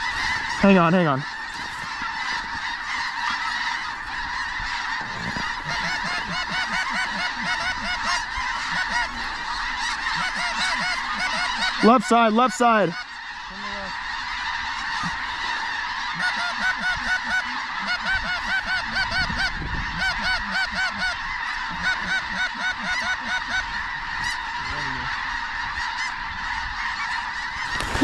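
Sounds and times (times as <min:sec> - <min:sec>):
flock of geese honking: 0:00.0 - 0:28.0
louder goose calls: 0:00.0 - 0:28.0.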